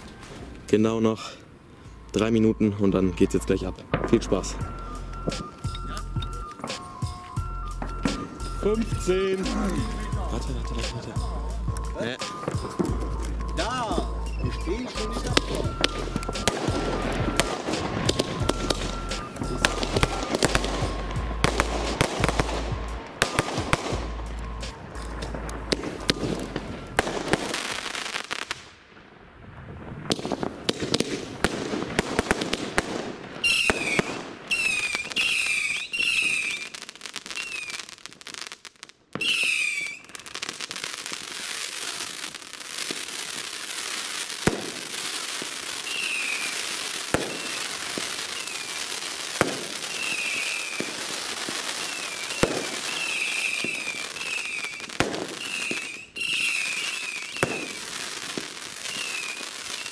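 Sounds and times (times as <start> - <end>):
falling fireworks whistles: 0.0 - 59.9
fireworks crackling: 0.0 - 59.9
fireworks bangs: 3.5 - 59.9.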